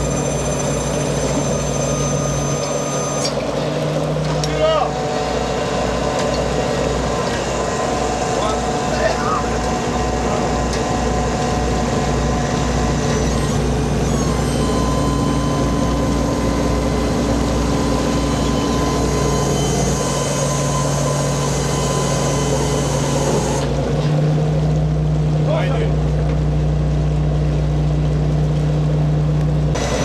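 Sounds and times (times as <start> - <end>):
thin steady whine: 0.0 - 23.8, 28.8 - 30.0
diesel engines droning: 0.0 - 30.0.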